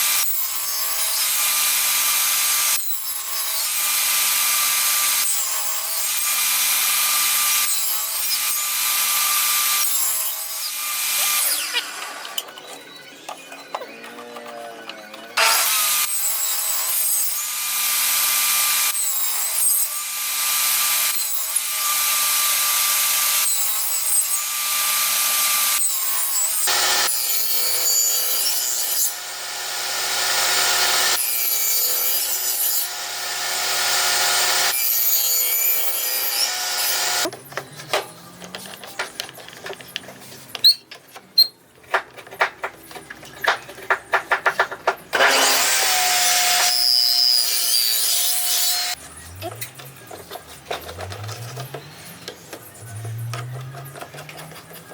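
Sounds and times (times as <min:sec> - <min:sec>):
power tool cutting wood: 0:00.0 - 0:12.5, 0:13.9 - 0:37.3, 0:45.1 - 0:54.9.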